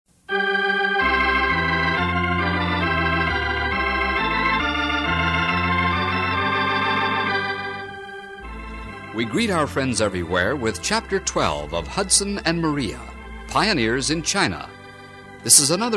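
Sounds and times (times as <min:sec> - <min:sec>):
organ playing sustained chords: 0:00.3 - 0:15.9.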